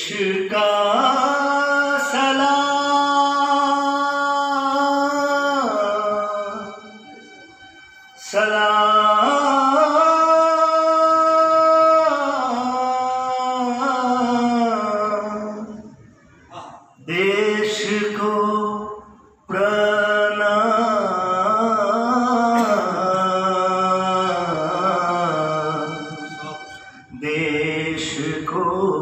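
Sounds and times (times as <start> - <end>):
man singing into a microphone: 0.0 - 7.0, 8.2 - 16.0, 16.9 - 29.0.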